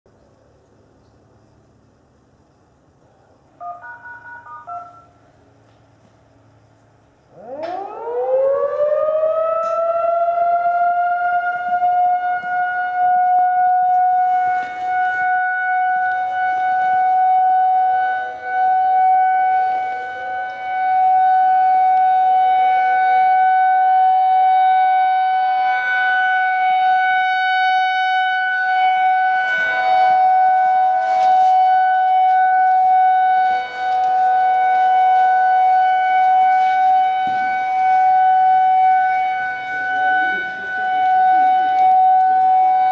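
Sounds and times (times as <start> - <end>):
distant sirens: 3.1 - 42.9
rotating warning siren: 3.4 - 42.9.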